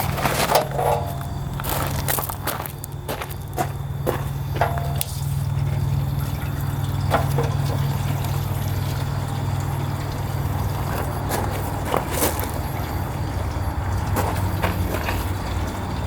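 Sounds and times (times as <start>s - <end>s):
fuel pouring and splashing: 0.0s - 16.0s.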